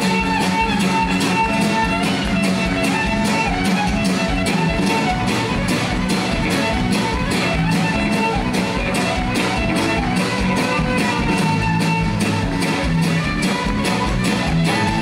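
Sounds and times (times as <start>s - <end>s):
fiddle playing a reel: 0.0s - 15.0s
guitars: 0.0s - 15.0s
steady drum beat: 0.0s - 15.0s.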